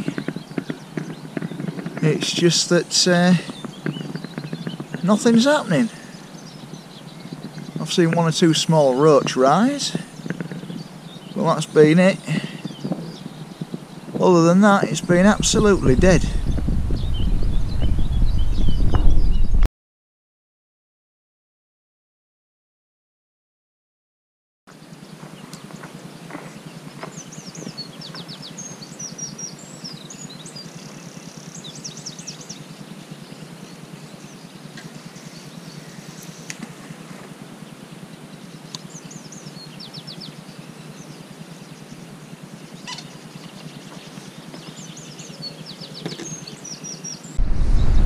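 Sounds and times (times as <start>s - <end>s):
steady low hum: 0.0s - 19.0s, 24.8s - 48.0s
songbird chirping and trilling: 0.0s - 19.6s, 24.7s - 48.0s.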